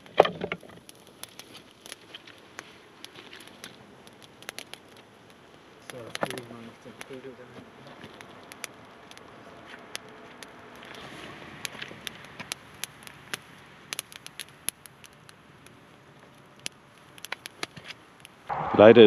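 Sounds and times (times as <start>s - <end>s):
wood fire crackling: 0.0s - 19.0s
faint road traffic: 0.4s - 19.0s.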